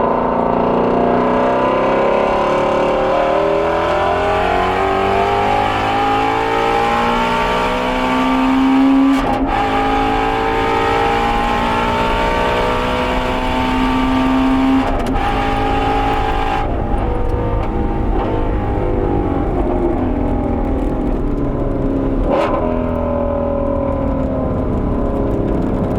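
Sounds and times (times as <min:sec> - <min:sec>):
car engine at full throttle: 0:00.0 - 0:25.9.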